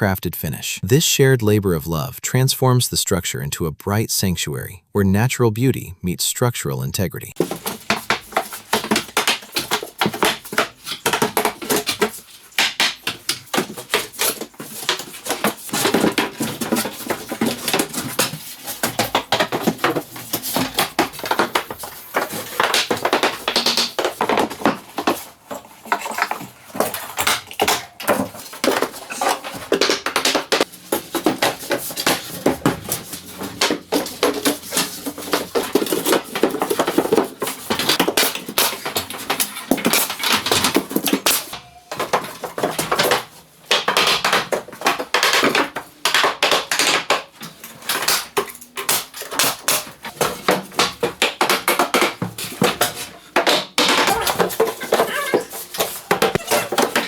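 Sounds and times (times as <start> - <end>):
knocks and taps on wooden boards: 7.4 - 57.0.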